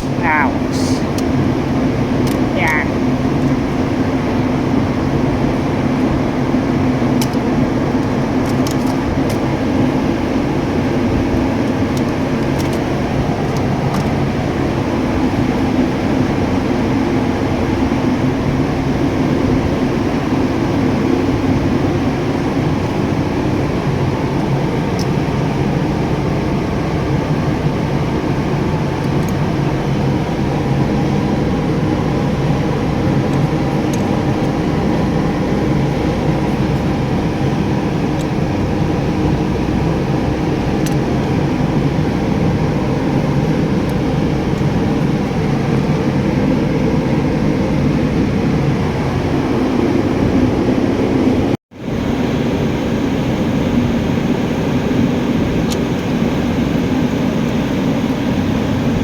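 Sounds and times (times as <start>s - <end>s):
machine droning: 0.0s - 59.0s.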